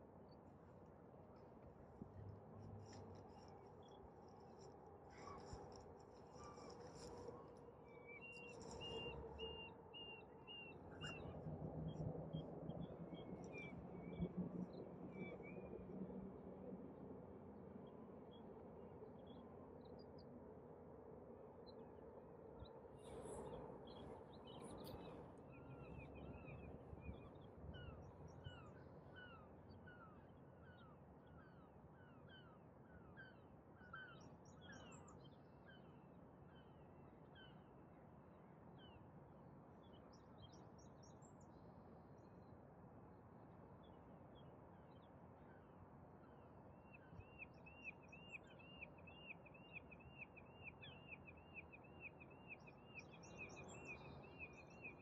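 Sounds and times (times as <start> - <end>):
faint birdsong: 0.0 - 16.0, 17.7 - 39.1, 43.7 - 55.0.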